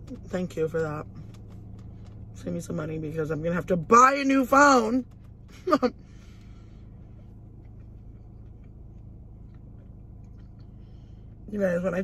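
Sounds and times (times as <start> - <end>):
car interior hum: 0.0 - 12.0.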